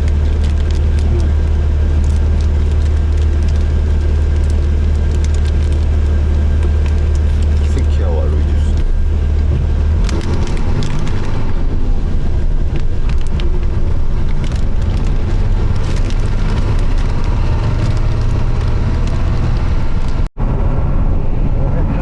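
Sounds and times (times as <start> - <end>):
engine and tyre rumble: 0.0 - 22.0.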